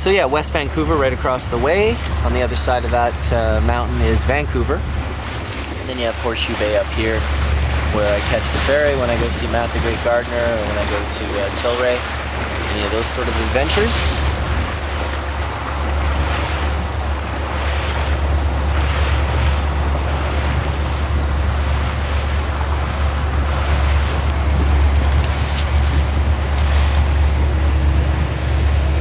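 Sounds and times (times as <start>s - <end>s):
motorboat engine hum: 0.0s - 29.0s
water splashing against hull: 0.0s - 29.0s
wind buffeting microphone: 0.0s - 29.0s.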